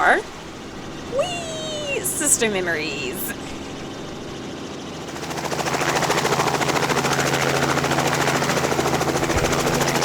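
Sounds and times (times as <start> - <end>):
helicopter engine hum: 0.0 - 10.0
helicopter rotor chopping: 0.0 - 10.0.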